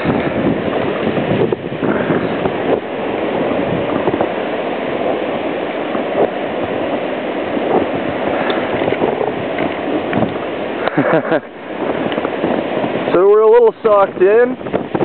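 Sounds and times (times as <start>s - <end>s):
blizzard wind blowing hard: 0.0s - 15.0s.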